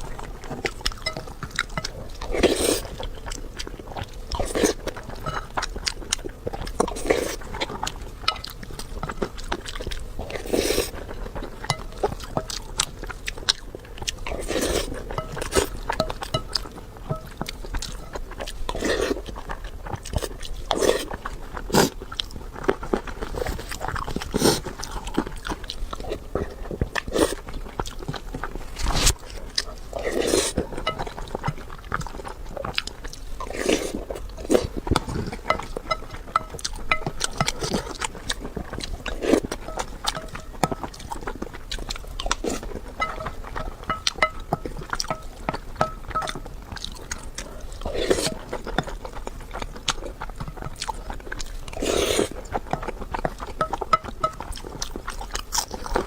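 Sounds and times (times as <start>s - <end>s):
chewing and biting: 0.0s - 56.0s.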